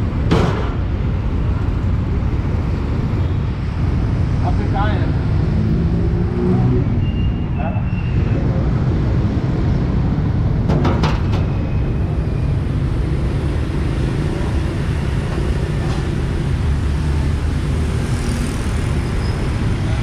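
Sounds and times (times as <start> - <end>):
motorbikes and cars passing: 0.0 - 20.0.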